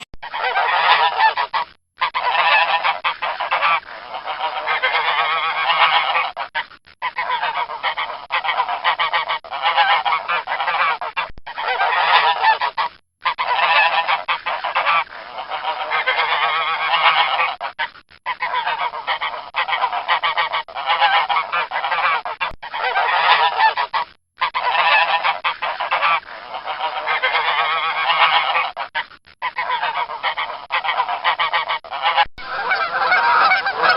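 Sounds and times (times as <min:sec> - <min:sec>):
geese honking: 0:00.2 - 0:33.9.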